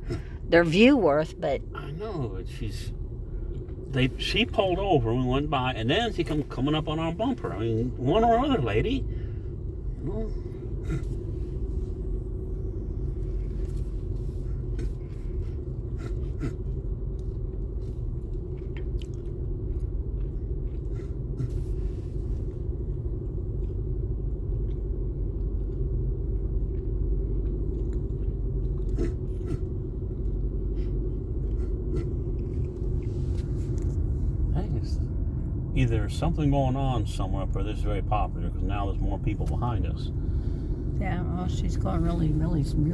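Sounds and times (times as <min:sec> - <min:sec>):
vehicle road and engine rumble: 0:00.0 - 0:42.9.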